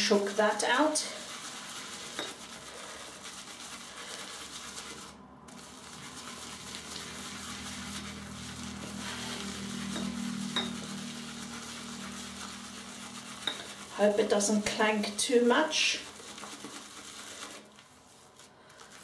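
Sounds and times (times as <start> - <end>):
wet brushing of shaving brush: 0.0 - 19.0.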